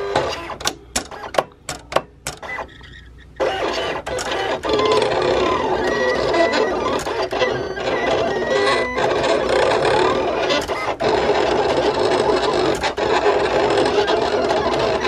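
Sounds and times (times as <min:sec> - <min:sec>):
stepper motors whining: 0:02.4 - 0:15.0.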